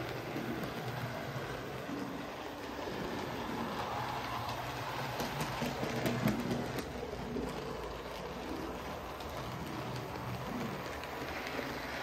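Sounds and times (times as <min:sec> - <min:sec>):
model train rumbling: 0:00.0 - 0:12.0
wheels clicking on rail joints: 0:00.0 - 0:12.0.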